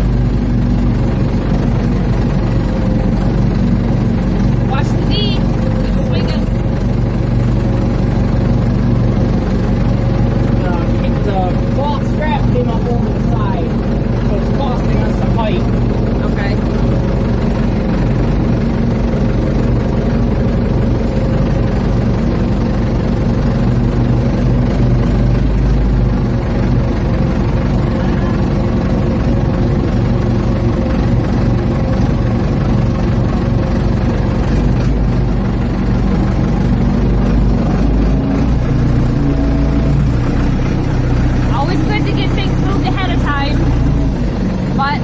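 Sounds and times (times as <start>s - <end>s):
backhoe engine running: 0.0s - 45.0s.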